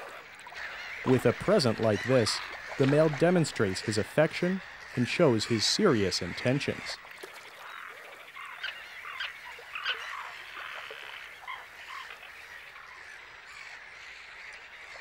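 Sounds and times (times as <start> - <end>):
terns calling: 0.0 - 15.0.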